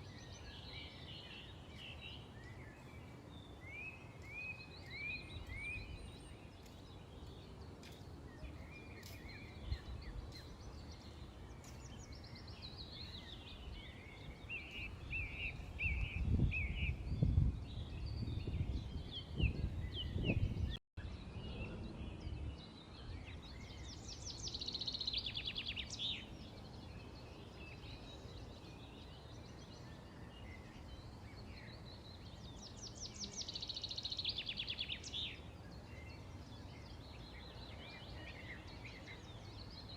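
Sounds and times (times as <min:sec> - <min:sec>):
outdoor background noise: 0:00.0 - 0:39.9
small birds chirping: 0:00.0 - 0:39.9.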